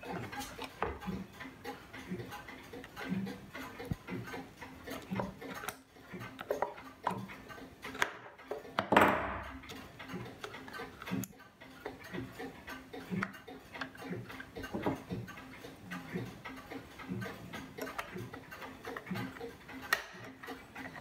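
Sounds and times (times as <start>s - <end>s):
clock movement ticking: 0.0s - 21.0s.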